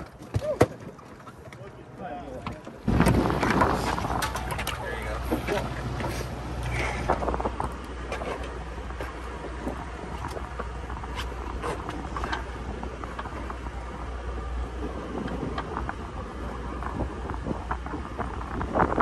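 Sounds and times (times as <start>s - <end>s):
boat engine droning: 0.0s - 19.0s
sea noise: 0.0s - 19.0s
wind: 0.0s - 19.0s.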